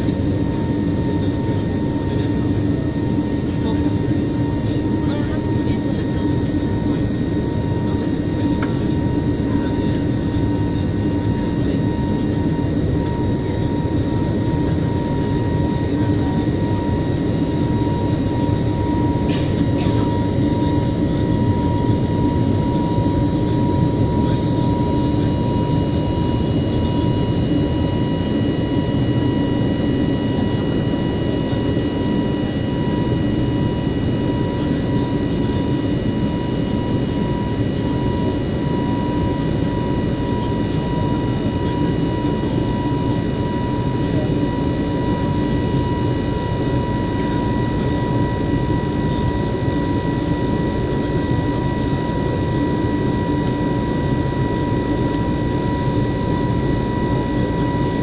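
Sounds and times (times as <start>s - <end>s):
high steady whine: 0.0s - 58.0s
jet engines roaring: 0.0s - 58.0s.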